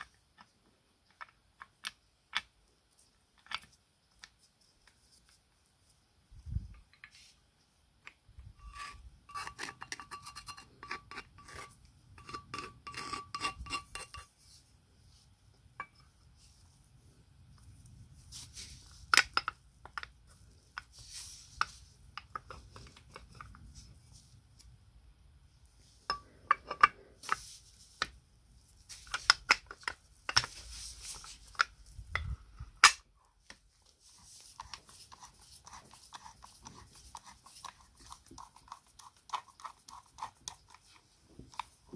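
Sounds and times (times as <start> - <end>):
rubbing and scraping small parts: 0.0 - 24.8, 25.5 - 41.9.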